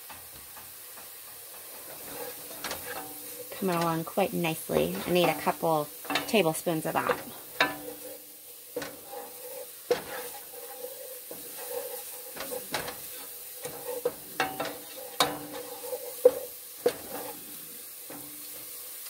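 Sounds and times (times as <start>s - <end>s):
spoon knocking and scraping pot: 0.0s - 18.8s
onions sizzling in a pot: 0.0s - 19.0s.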